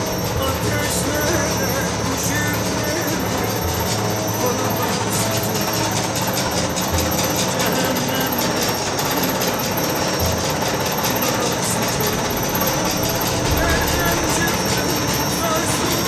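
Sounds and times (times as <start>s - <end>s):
low machine hum: 0.0s - 16.0s
machinery rattling clatter: 0.0s - 16.0s.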